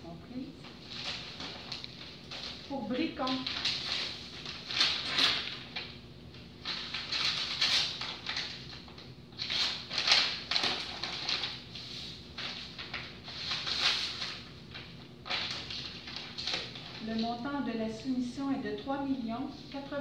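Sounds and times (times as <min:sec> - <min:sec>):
paper rustling: 0:00.6 - 0:17.4.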